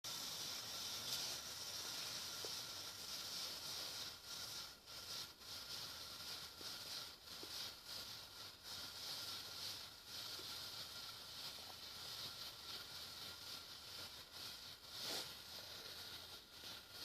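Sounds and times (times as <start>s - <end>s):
burning fuel hissing: 0.0s - 17.0s.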